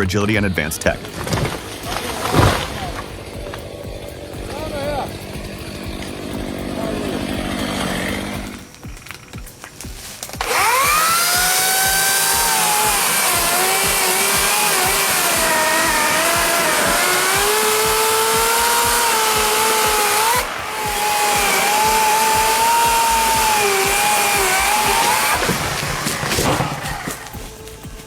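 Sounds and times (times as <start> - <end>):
chainsaw running at high speed: 0.9 - 28.0.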